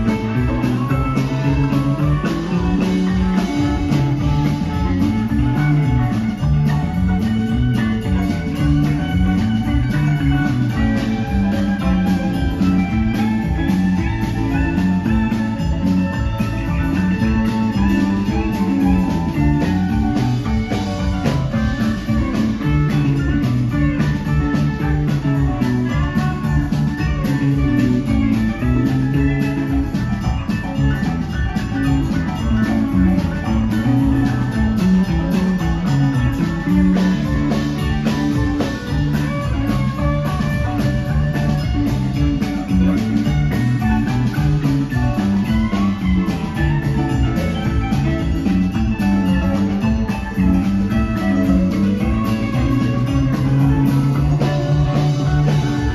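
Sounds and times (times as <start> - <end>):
bass: 0.0 - 55.9
drum kit: 0.0 - 55.9
electric guitars: 0.0 - 55.9
keyboard: 0.0 - 55.9.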